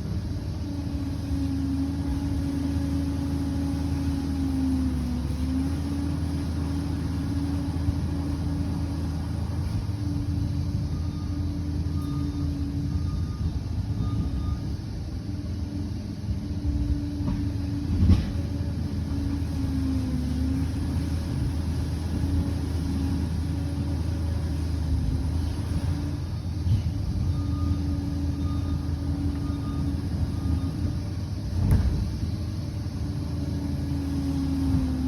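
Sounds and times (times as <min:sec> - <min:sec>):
bulldozer diesel engine rumbling: 0:00.0 - 0:35.0.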